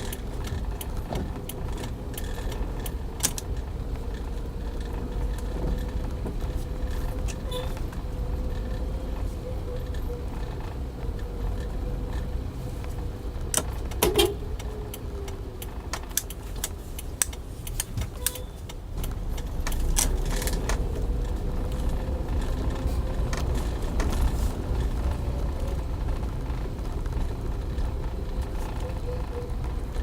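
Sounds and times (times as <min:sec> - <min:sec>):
car engine and road rumble: 0:00.0 - 0:30.0
sharp clicks and rattles: 0:00.0 - 0:30.0.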